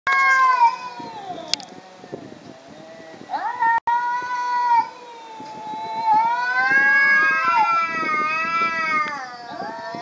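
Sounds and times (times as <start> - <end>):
cats yowling: 0.1 - 1.6, 2.9 - 10.0.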